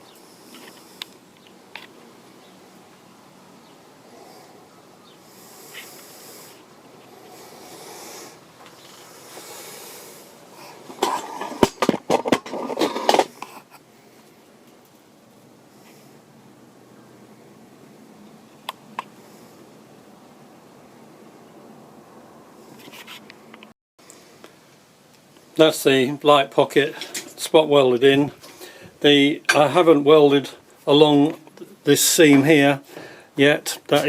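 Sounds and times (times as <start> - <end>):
faint handling hiss: 0.0 - 16.7, 22.5 - 34.0.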